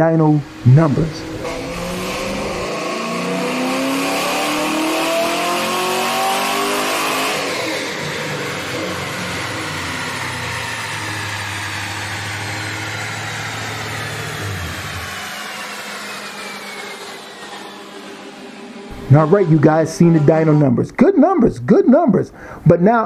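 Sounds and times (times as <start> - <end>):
engine revving on dyno: 0.0 - 20.8.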